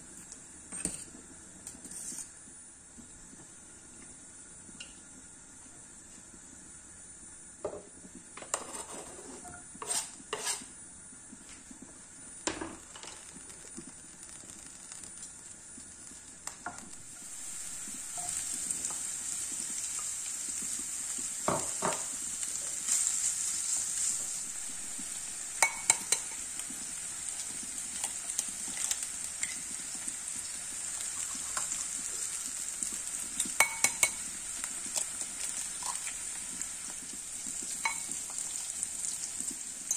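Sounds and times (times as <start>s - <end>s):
onion sizzling in a pan: 0.0s - 39.9s.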